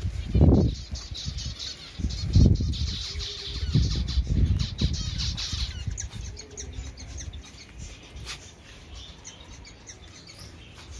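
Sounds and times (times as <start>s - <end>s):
birds chirping and squeaking: 0.0s - 10.9s.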